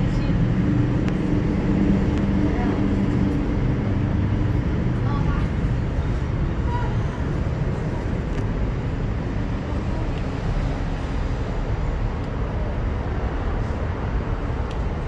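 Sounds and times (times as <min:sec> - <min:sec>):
cable car cabin travelling: 0:00.0 - 0:15.0.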